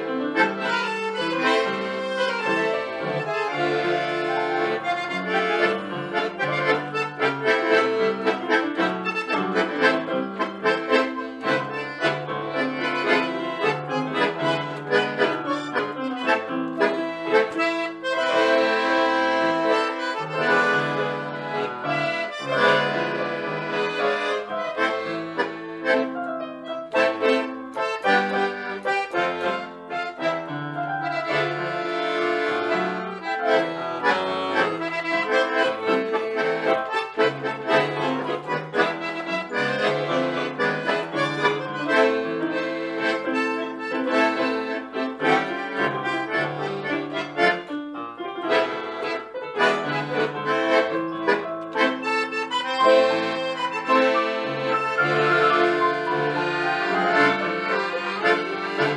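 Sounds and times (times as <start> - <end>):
tango on bandoneon accordion and keyboard: 0.0 - 58.9.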